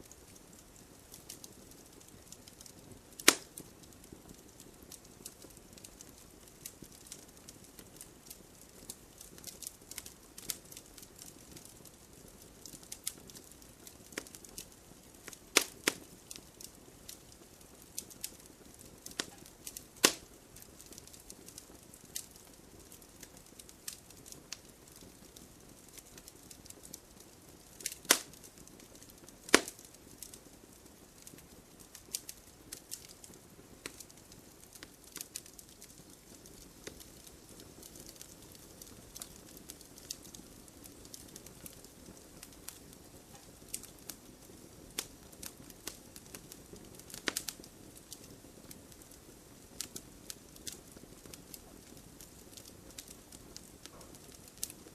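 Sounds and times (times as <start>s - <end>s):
campfire crackling: 0.0s - 54.9s
low hiss of flames: 0.0s - 54.9s
sharp fire cracks: 0.0s - 54.9s.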